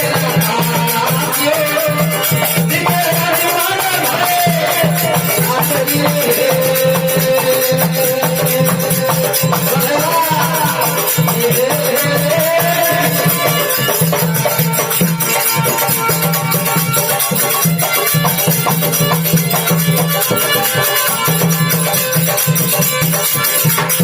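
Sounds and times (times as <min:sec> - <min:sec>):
sliding melody line: 0:00.0 - 0:23.8
jingling rattling percussion: 0:00.0 - 0:24.0
steady drum beat: 0:00.0 - 0:24.0.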